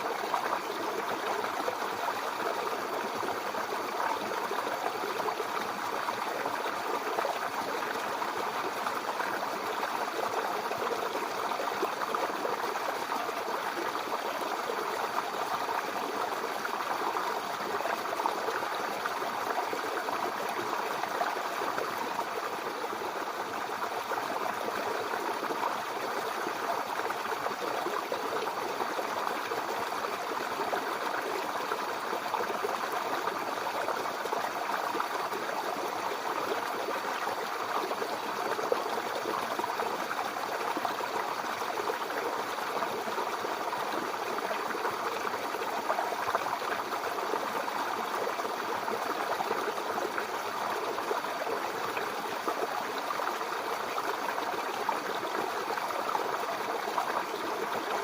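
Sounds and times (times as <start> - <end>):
brook water burbling over stones: 0.0 - 58.0.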